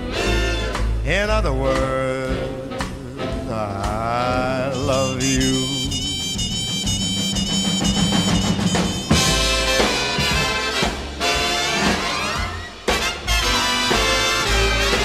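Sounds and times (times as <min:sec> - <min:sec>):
big-band swing music: 0:00.0 - 0:15.0.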